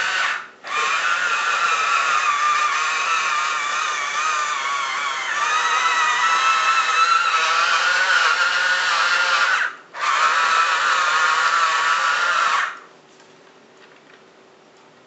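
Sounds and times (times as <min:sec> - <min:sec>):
small electric motor whining: 0:00.0 - 0:12.8.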